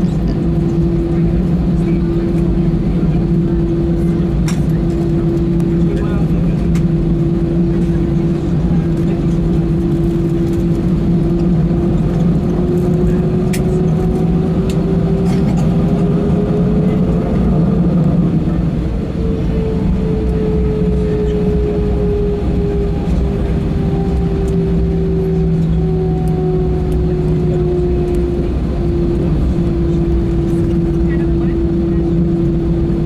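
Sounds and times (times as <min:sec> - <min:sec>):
jet engine drone in cabin: 0:00.0 - 0:33.0.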